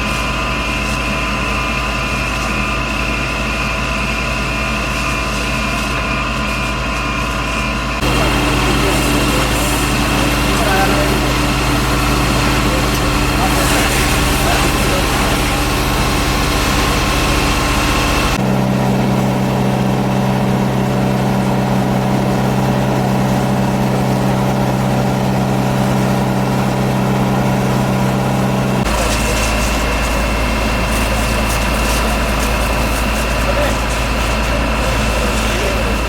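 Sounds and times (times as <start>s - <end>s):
heavy engine idling: 0.0s - 36.0s.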